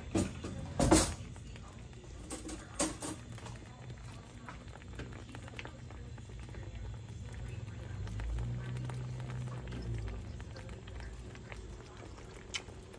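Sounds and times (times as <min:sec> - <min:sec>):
chicken sizzling in hot oil: 0:00.0 - 0:12.9.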